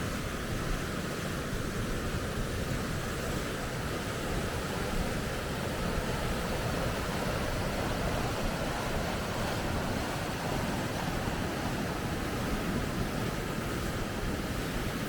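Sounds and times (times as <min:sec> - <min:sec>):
water rushing over rapids: 0:00.0 - 0:15.0.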